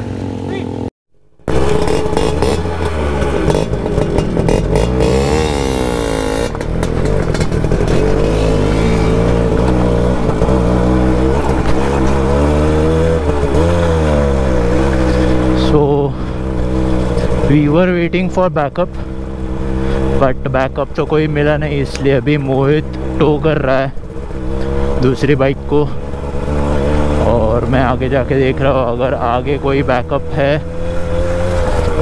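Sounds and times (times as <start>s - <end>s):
two-stroke motorcycle engine: 0.0s - 32.0s.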